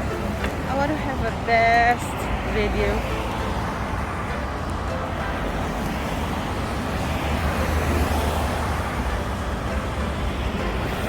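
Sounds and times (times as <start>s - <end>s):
bicycle road noise: 0.0s - 11.0s.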